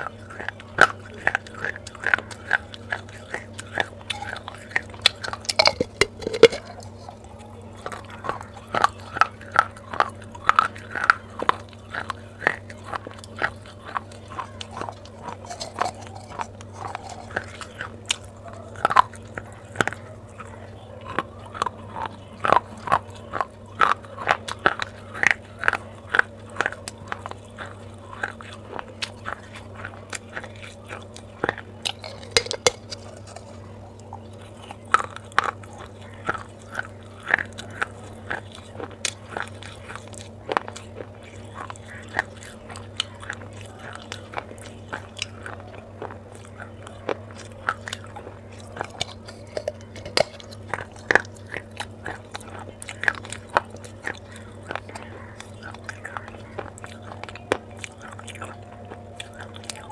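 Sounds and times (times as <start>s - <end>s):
clay pot being chewed: 0.0s - 59.9s
faint low hum: 0.0s - 59.9s.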